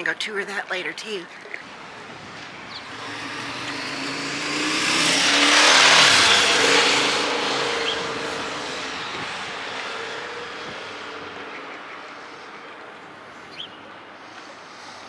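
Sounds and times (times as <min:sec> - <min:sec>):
vehicle passing by: 0:01.7 - 0:15.0.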